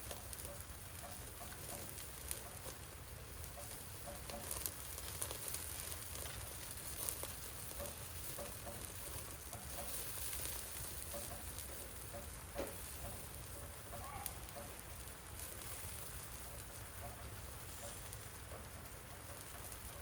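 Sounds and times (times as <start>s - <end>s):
rain pattering: 0.0s - 20.0s
wood fire crackling: 0.0s - 20.0s.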